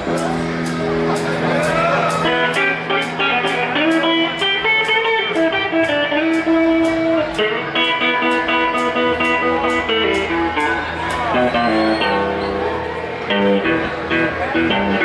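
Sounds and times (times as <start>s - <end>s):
steady ticking beat: 0.0s - 12.2s
electric guitar notes: 0.0s - 15.0s.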